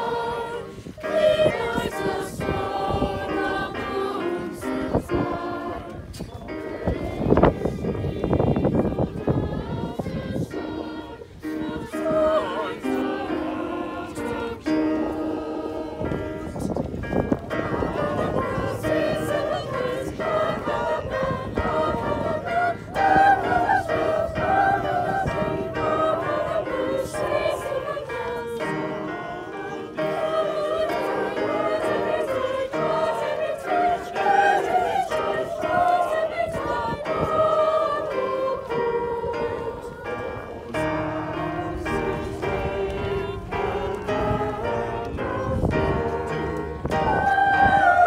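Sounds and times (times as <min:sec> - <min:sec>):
choir singing a carol: 0:00.0 - 0:48.0.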